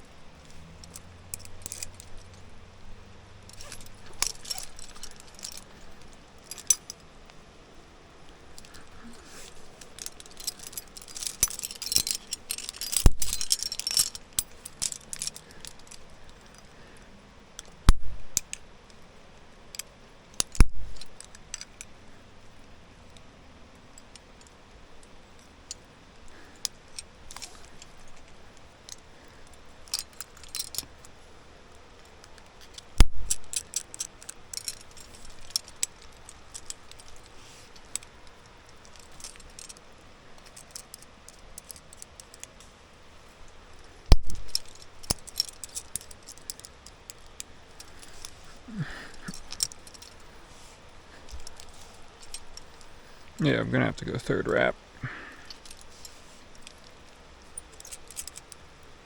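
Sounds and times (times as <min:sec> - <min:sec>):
metal climbing gear clinking: 0:00.0 - 0:59.0.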